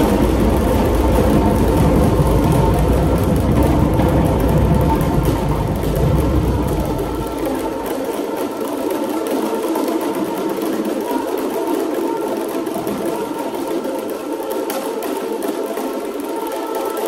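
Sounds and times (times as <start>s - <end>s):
dense fast rattling percussion: 0.0s - 17.0s.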